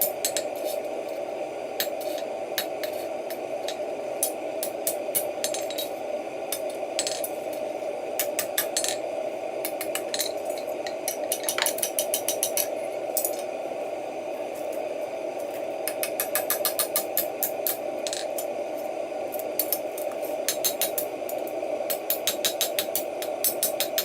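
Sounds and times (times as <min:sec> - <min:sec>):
forge hum: 0:00.0 - 0:24.0.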